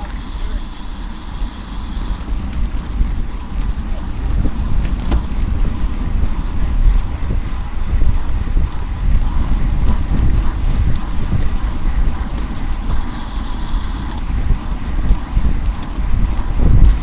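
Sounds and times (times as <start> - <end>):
faint bicycle drivetrain noise: 0.0 - 17.0
wind buffeting microphone: 0.0 - 17.0.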